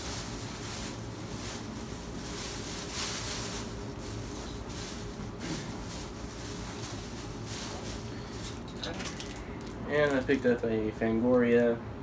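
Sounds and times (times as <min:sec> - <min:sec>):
rustling and handling noise: 0:00.0 - 0:11.8
low room hum: 0:00.0 - 0:12.0.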